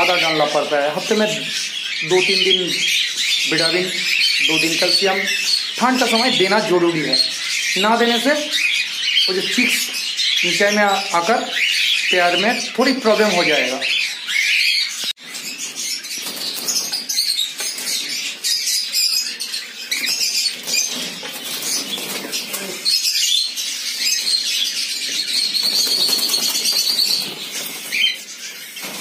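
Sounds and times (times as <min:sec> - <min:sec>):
cockatiels chirping: 0:00.0 - 0:29.0.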